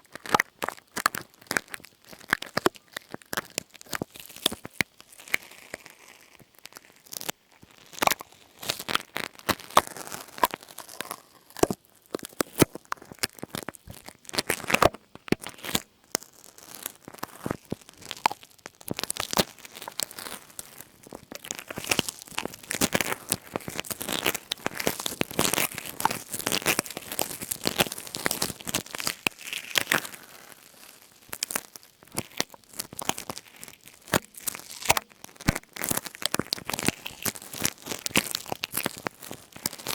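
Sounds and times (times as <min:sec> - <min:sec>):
close crinkling and crackling: 0:00.0 - 0:39.9.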